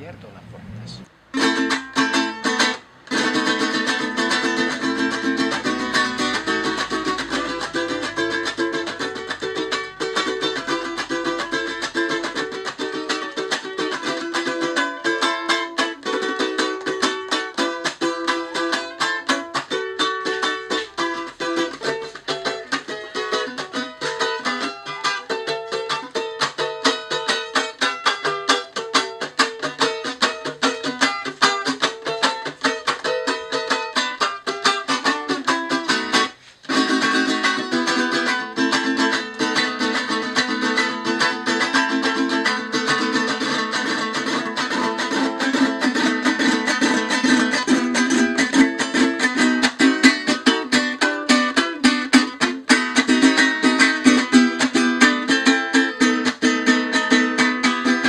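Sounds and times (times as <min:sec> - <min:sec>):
small guitar strummed fast: 0:00.6 - 0:58.0.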